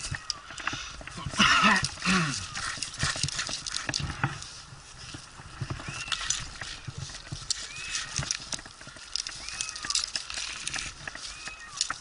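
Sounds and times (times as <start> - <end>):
climbing gear knocks and clicks: 0.0 - 12.0.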